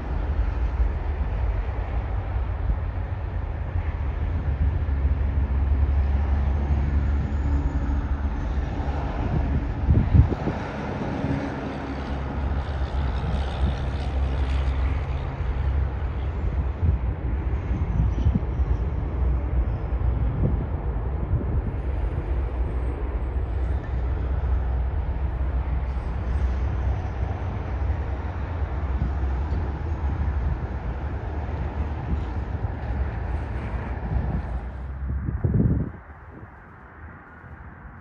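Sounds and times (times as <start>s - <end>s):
low engine rumble: 0.0s - 38.0s.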